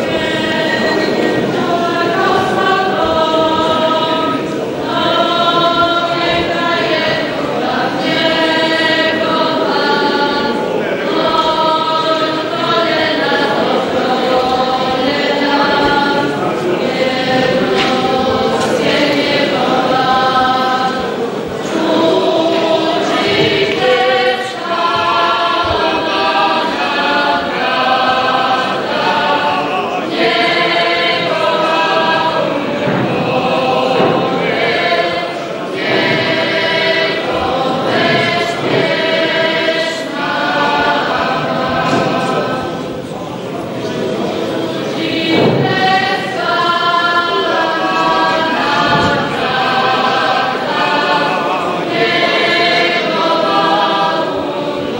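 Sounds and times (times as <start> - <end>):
church choir singing: 0.0 - 54.9.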